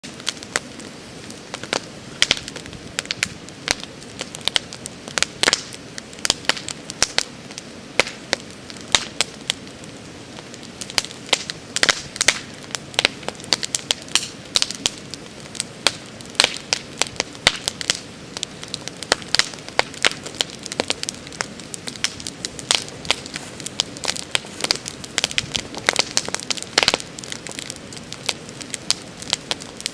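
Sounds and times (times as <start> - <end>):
campfire crackling and popping: 0.0 - 29.9
low hiss of flame: 0.0 - 29.9.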